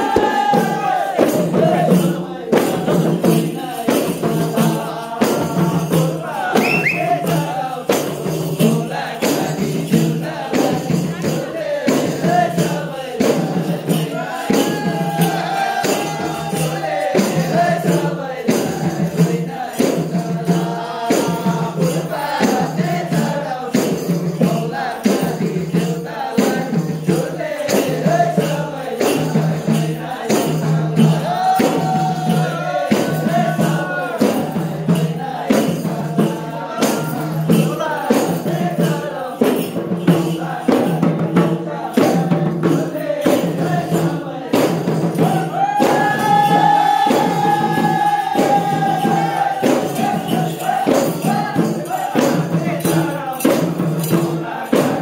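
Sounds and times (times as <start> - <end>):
hand drums: 0.0 - 55.0
jingling percussion: 0.0 - 55.0
voices singing together: 0.0 - 55.0.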